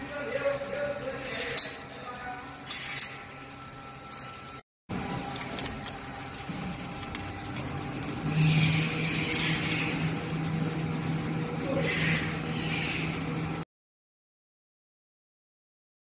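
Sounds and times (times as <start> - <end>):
low machine hum: 0.0 - 13.6.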